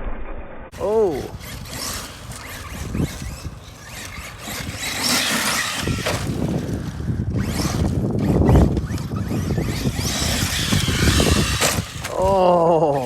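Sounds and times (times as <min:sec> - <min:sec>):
rc truck motor and tyres on dirt: 0:00.7 - 0:13.0.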